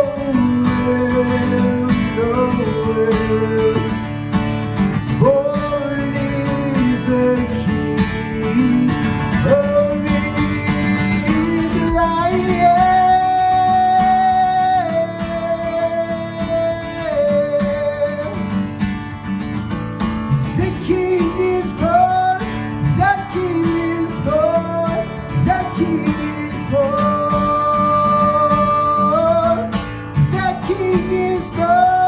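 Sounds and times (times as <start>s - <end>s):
acoustic guitar: 0.0s - 32.0s.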